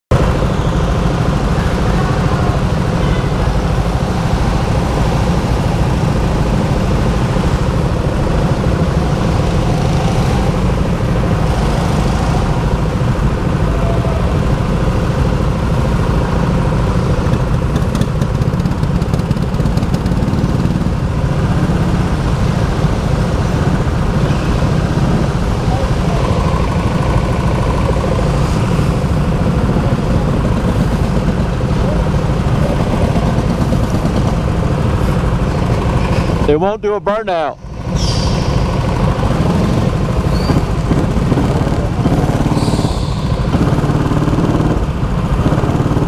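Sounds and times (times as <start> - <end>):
heavy low rumble: 0.1 - 46.0
go-kart motor drone: 0.2 - 36.5, 37.6 - 46.0.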